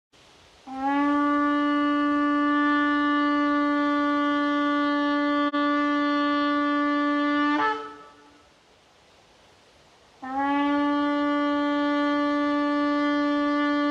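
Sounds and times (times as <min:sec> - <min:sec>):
shofar blast: 0:00.6 - 0:08.5, 0:10.2 - 0:13.9.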